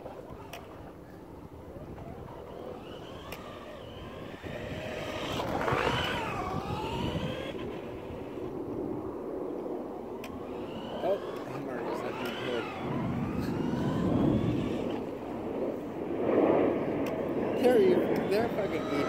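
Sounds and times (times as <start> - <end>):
radio-controlled car motor whine: 0.1 - 8.5, 10.1 - 15.4, 17.1 - 19.0.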